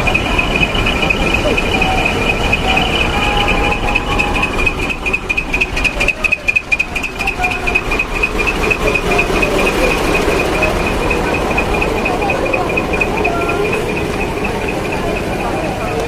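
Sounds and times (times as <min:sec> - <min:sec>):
high-pitched pulsing chirp: 0:00.0 - 0:16.0
truck diesel engines rumbling: 0:00.0 - 0:16.0.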